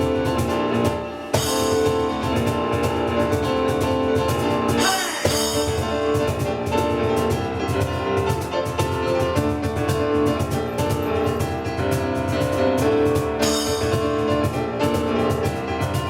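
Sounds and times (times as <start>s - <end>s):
piano: 0.0s - 16.0s
steady percussion: 0.0s - 16.0s.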